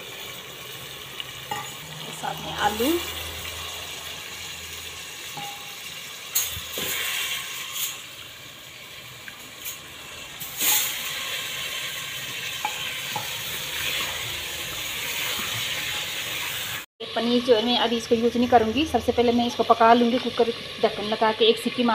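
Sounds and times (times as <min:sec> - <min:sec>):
vegetables sizzling in hot oil: 0:00.0 - 0:21.9.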